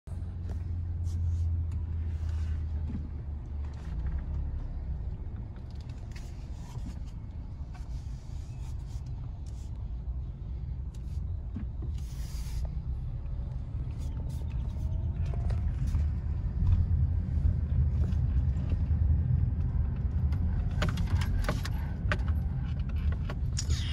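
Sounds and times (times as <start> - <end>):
car engine and tyres rumbling: 0.0 - 23.9.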